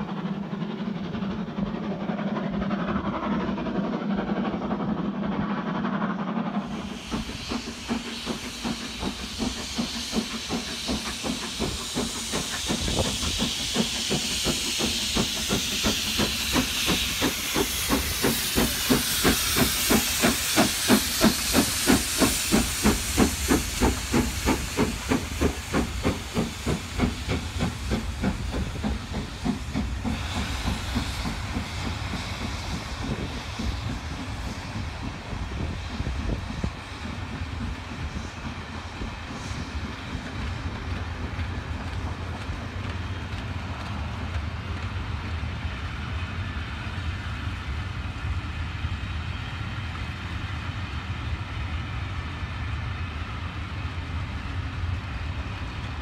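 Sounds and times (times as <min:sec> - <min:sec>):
loud steam hiss: 0:00.0 - 0:56.0
muffled train sound: 0:00.0 - 0:56.0
steam locomotive exhaust chuffing: 0:00.0 - 0:56.0
train coaches rolling by: 0:00.0 - 0:56.0.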